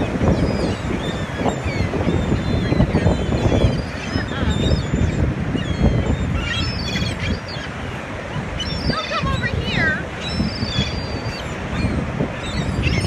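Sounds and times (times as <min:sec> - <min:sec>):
seagulls calling: 0:00.0 - 0:13.0
wind buffeting microphone: 0:00.0 - 0:13.0.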